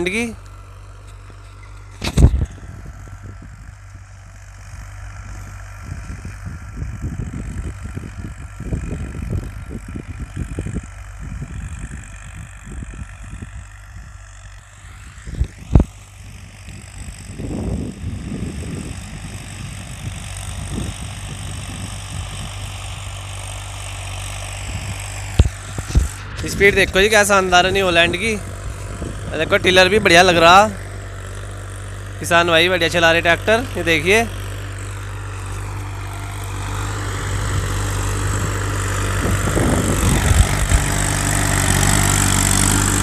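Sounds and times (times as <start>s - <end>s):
distant tractor engine running: 0.0s - 43.0s
low rumbles: 0.0s - 43.0s.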